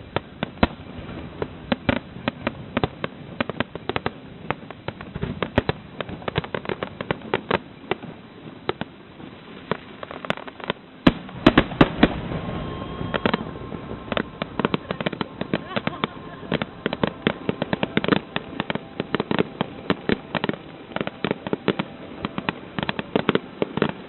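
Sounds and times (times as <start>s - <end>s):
fireworks bursting and crackling: 0.0s - 24.0s
loud firework bangs: 0.0s - 24.0s.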